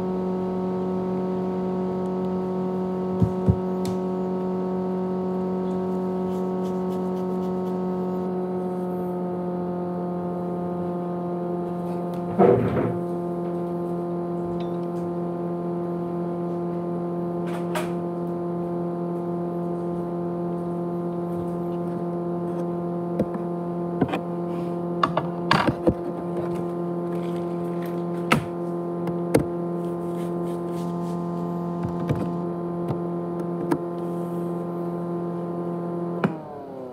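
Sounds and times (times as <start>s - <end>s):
hard drive humming: 0.0s - 36.9s.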